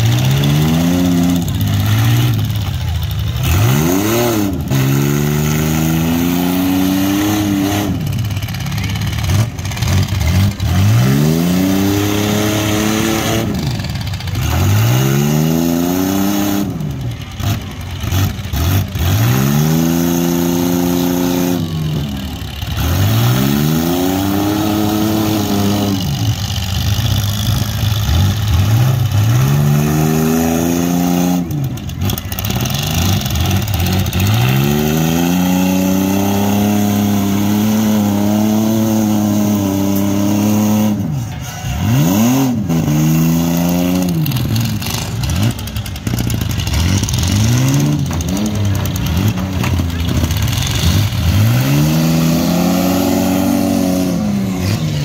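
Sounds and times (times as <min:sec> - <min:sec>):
engines revving hard: 0:00.0 - 0:55.0.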